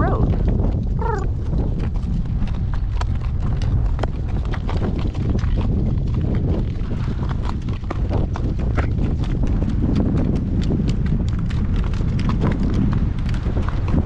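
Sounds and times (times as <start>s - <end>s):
horse hooves on pavement: 0.0s - 14.0s
wind rumbling on microphone: 0.0s - 14.0s.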